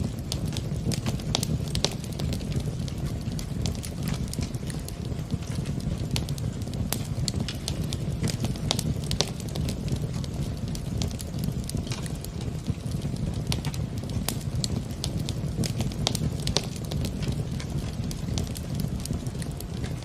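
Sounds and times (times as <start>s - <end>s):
log fire crackling: 0.0s - 20.0s.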